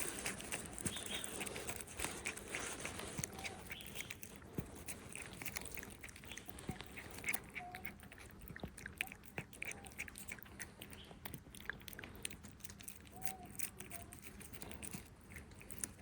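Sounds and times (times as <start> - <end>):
cat chewing and crunching food: 0.0 - 16.0.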